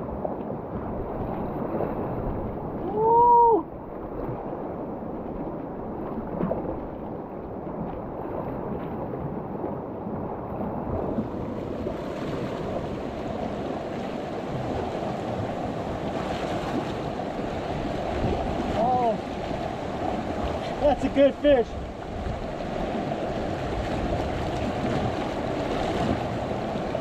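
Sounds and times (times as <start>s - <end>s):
ocean surf on rocky shore: 0.0s - 27.0s
wind buffeting microphone: 0.0s - 27.0s.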